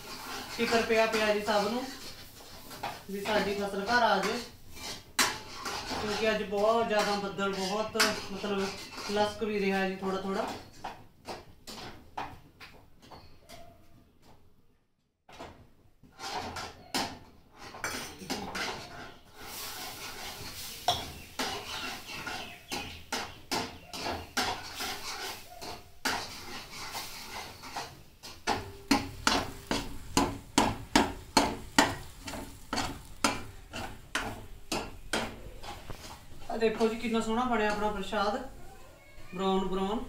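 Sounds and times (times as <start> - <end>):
metal ladle scraping metal pan: 0.0 - 12.0, 16.1 - 16.8, 17.5 - 38.1.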